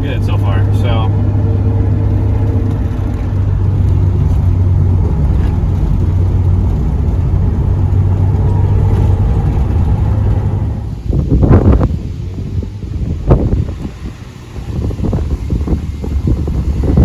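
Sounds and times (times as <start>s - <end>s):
car engine humming: 0.0s - 17.0s
road noise: 0.0s - 17.0s.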